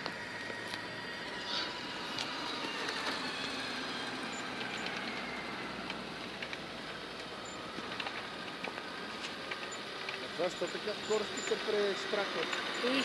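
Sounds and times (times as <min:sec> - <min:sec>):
small electric motors whining: 0:00.0 - 0:13.0.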